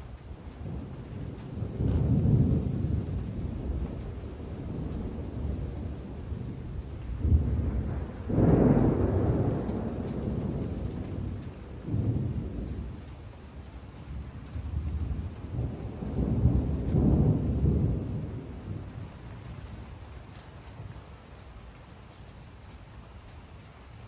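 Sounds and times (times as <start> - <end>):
rolling thunder: 0.1 - 21.8.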